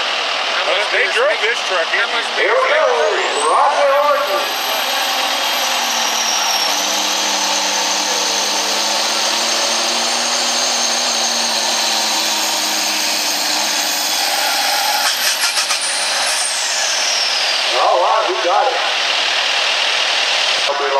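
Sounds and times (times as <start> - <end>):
diesel truck engine at full throttle: 0.0 - 20.9.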